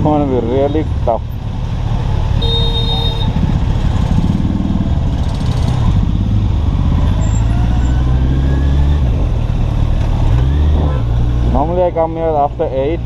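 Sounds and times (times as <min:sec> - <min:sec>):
motorcycle engine at low speed: 0:00.0 - 0:13.0
traffic: 0:00.0 - 0:13.0.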